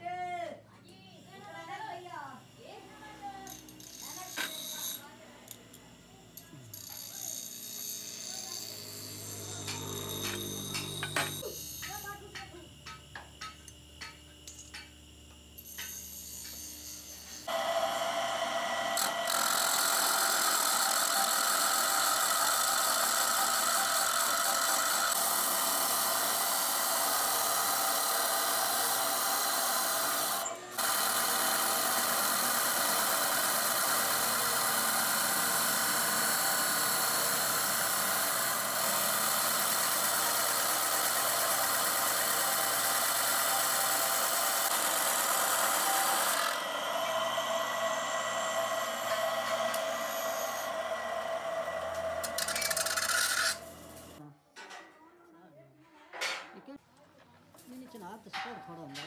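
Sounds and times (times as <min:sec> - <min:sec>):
chop saw grinding steel pipe: 0:03.5 - 0:05.1, 0:06.7 - 0:14.9, 0:15.6 - 0:54.2.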